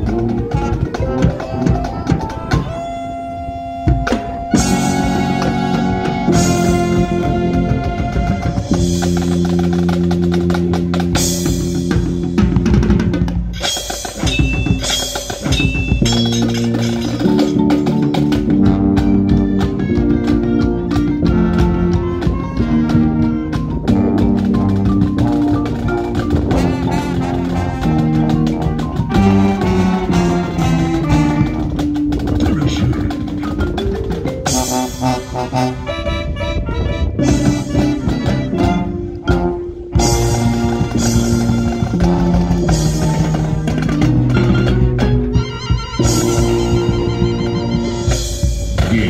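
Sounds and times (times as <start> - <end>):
snare and bass drums: 0.0 - 3.0, 3.9 - 35.9, 37.0 - 49.0
marching band playing: 0.0 - 49.0
mallet percussion: 3.9 - 35.8, 37.2 - 49.0.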